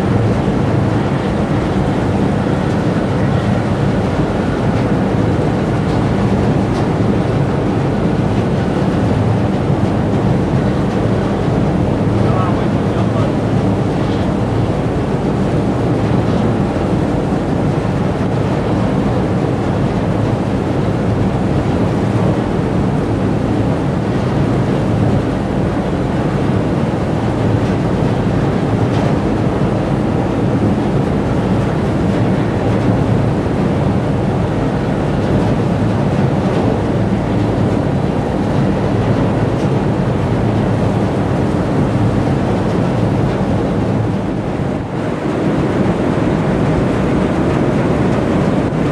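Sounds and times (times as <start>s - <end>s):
boat engine drone: 0.0s - 48.9s
water rushing along hull: 0.0s - 48.9s
wind on microphone: 0.0s - 48.9s.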